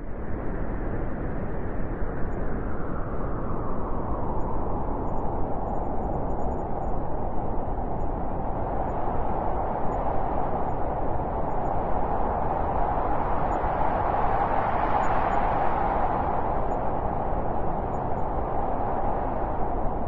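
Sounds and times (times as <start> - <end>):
blizzard wind howling: 0.0 - 20.0.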